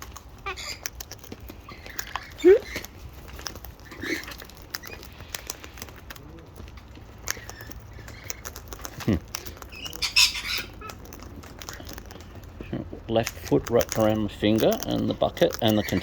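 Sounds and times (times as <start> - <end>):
parrot calls: 0.0 - 14.2, 14.8 - 16.0
parrots cracking seed: 0.0 - 16.0.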